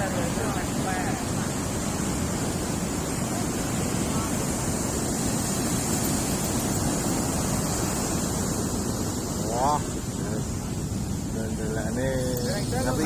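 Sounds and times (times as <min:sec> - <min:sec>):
ocean surf on sand beach: 0:00.0 - 0:13.0
wind buffeting microphone: 0:00.0 - 0:13.0.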